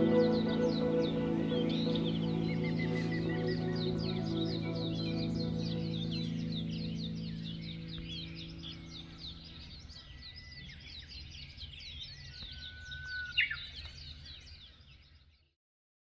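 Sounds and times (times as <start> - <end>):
small birds chirping: 0.0 - 15.4.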